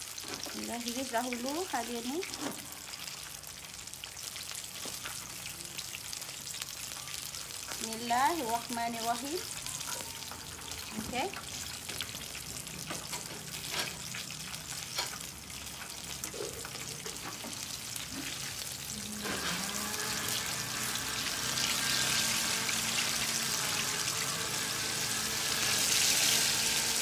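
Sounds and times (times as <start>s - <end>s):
ginger sizzling in hot oil: 0.0s - 27.0s.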